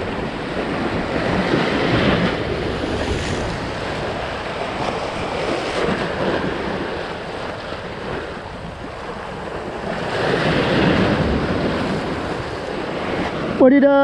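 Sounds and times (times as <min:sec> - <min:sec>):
sea waves breaking on concrete: 0:00.0 - 0:14.0
wind buffeting microphone: 0:00.0 - 0:14.0.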